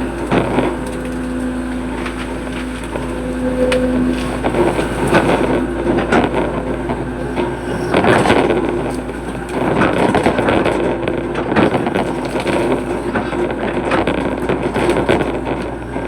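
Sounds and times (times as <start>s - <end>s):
excavator diesel engine: 0.0s - 16.0s
hydraulics working: 0.0s - 16.0s.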